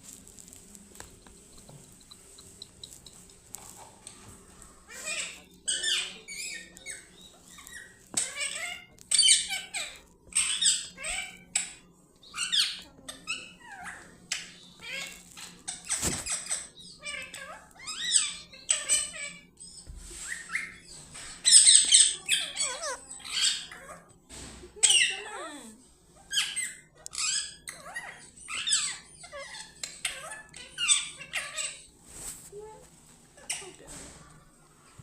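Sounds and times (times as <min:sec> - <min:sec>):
parrot squawking and chattering: 0:00.6 - 0:31.9, 0:33.4 - 0:34.2.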